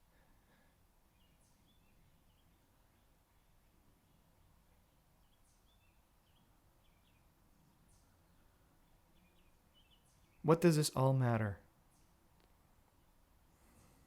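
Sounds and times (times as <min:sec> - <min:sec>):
faint bird chirps: 0:00.0 - 0:11.2, 0:13.0 - 0:14.0.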